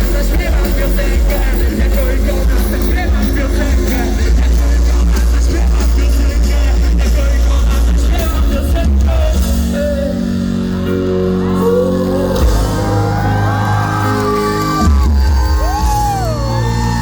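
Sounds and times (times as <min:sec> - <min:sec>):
deep bass line: 0:00.0 - 0:17.0
live song through concert pa: 0:00.0 - 0:17.0
person singing: 0:00.0 - 0:17.0.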